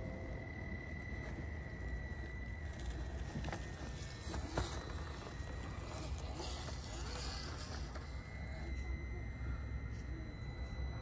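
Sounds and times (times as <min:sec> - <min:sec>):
electric motor and gear whine: 0:00.0 - 0:11.0.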